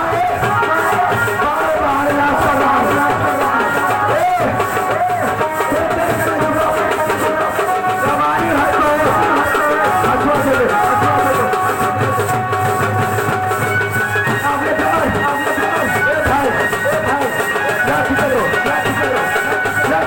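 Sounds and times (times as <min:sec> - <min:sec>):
loud music with drums: 0:00.0 - 0:20.0.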